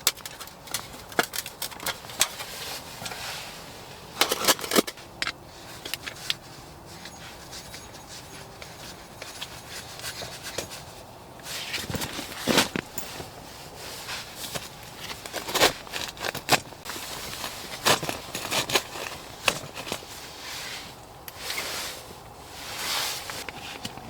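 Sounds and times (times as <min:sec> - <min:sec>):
gear rubbing and scraping: 0:00.0 - 0:24.0.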